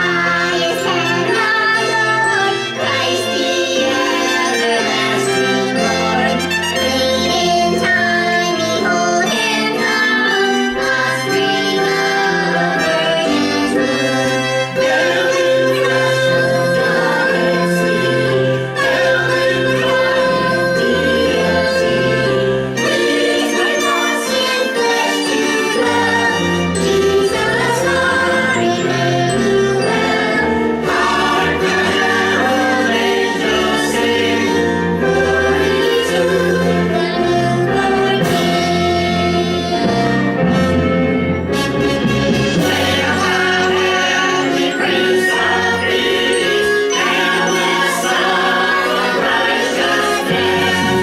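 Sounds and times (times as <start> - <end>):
choir singing: 0.0 - 51.0
instrumental accompaniment: 0.0 - 51.0.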